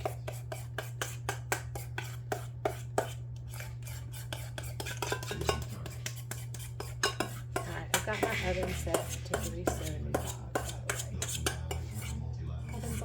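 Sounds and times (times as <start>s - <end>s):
steady low hum: 0.0s - 13.0s
utensil scraping a baking dish: 0.0s - 13.0s.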